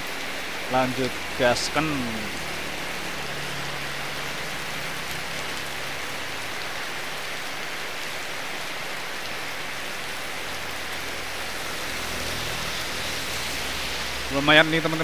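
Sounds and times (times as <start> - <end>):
heavy rain on road: 0.0 - 15.0.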